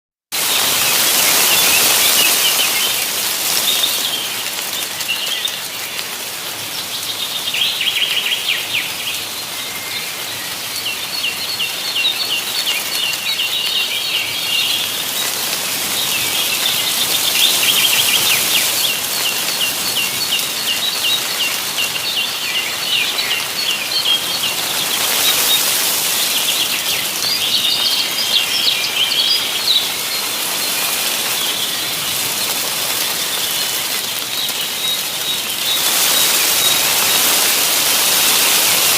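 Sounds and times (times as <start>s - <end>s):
continuous rustling hiss: 0.4s - 38.9s
songbirds chirping and trilling: 0.5s - 38.9s.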